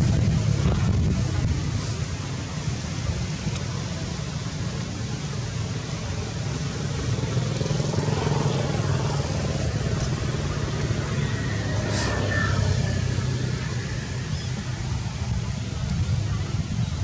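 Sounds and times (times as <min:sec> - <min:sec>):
low outdoor rumble: 0:00.0 - 0:17.0
vehicle engine: 0:00.0 - 0:17.0.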